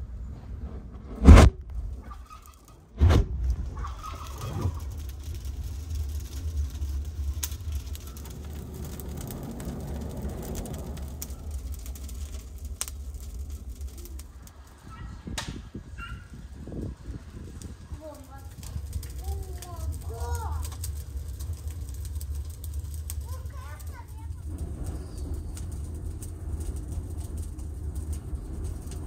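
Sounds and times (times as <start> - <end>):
low fire rumble: 0.0 - 29.0
twigs crackling in fire: 1.1 - 29.0.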